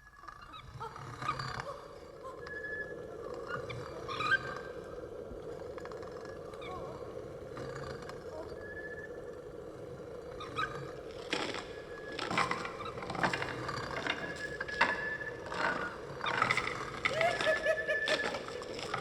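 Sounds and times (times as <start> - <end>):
wavering voice-like wails: 0.3 - 19.0.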